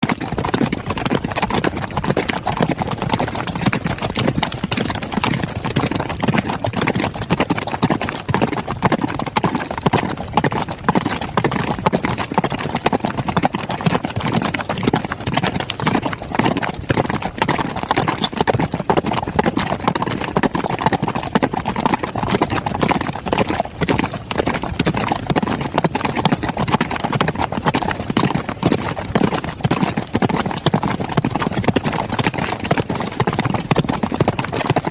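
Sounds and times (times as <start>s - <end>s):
horses galloping: 0.0s - 34.9s.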